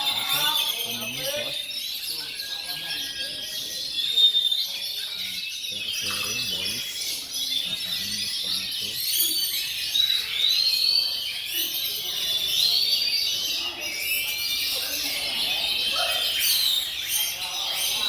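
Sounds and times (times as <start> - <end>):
birds singing whistled phrases: 0.0 - 18.0
faint murmur of voices: 0.0 - 18.0.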